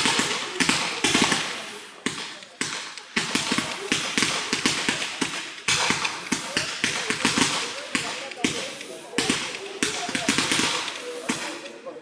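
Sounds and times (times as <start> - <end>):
fireworks crackling pops: 0.0 - 12.0
fireworks launching with hiss: 0.0 - 12.0.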